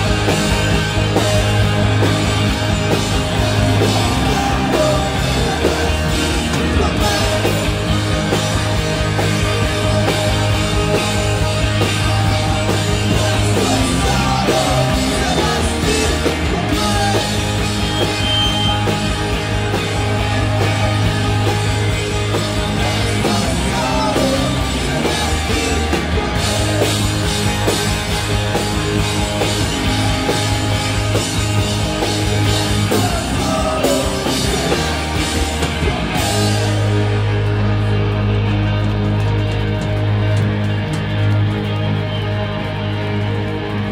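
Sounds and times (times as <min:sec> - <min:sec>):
live rock band playing loud: 0:00.0 - 0:43.9.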